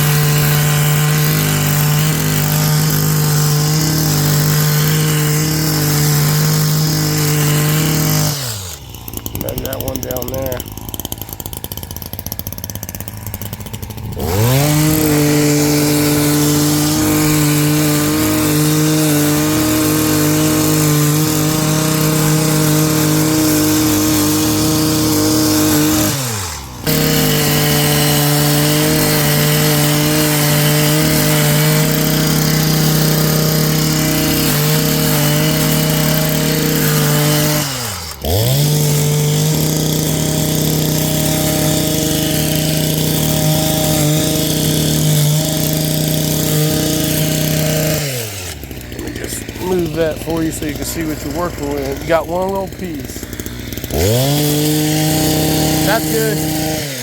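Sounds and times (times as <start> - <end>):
power tool motor spinning: 0.0 - 57.0.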